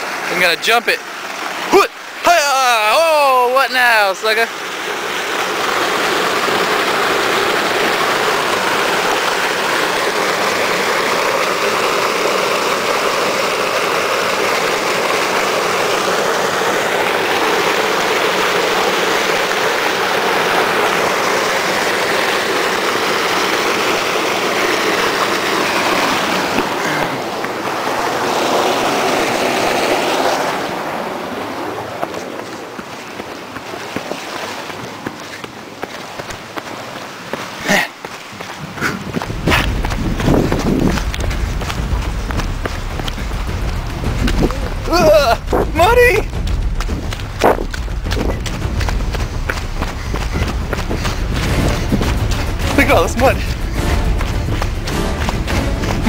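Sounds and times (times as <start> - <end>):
stream water pouring over ledge: 0.0 - 56.0.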